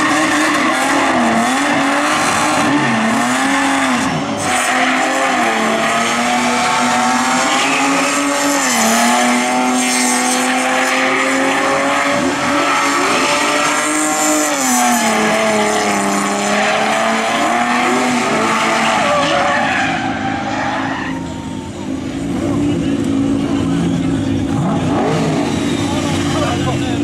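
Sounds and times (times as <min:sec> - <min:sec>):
car engines at high revs: 0:00.0 - 0:27.0
tyres squealing and skidding: 0:00.0 - 0:27.0.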